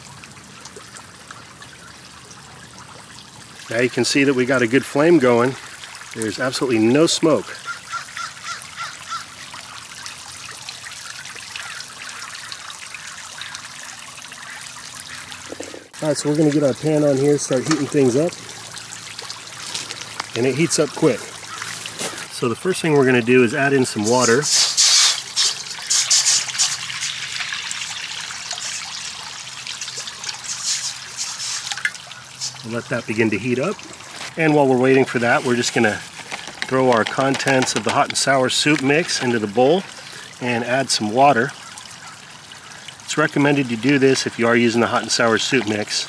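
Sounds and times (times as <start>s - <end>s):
waterfall trickling and splashing: 0.0s - 46.0s.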